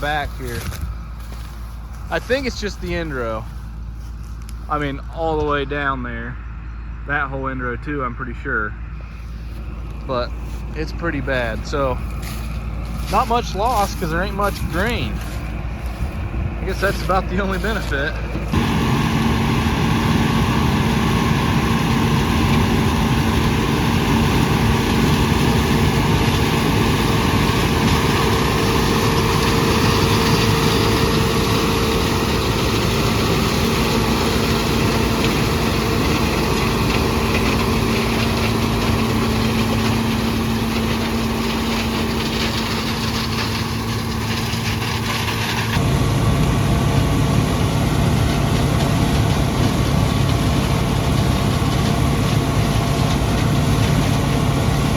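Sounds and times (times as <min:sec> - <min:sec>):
threshing machinery noise: 0:00.0 - 0:06.0, 0:08.4 - 0:54.9
diesel engine drone: 0:00.0 - 0:54.9.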